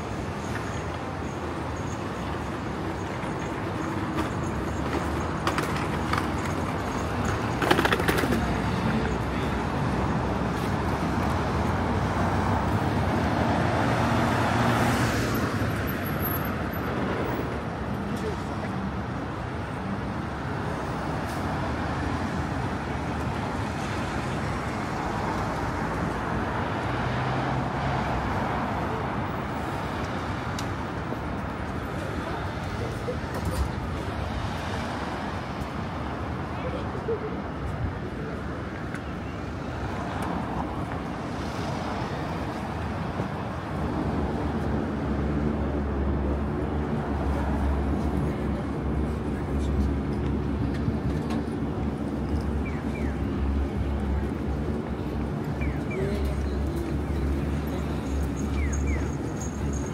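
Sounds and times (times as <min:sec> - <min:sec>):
passing vehicle engines: 0:00.0 - 0:59.9
steady road noise: 0:00.0 - 0:59.9
traffic hum: 0:00.0 - 0:59.9.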